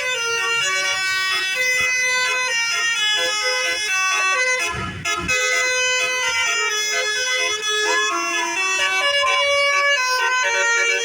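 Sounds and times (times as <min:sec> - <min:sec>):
bus musical horn melody: 0:00.0 - 0:11.0.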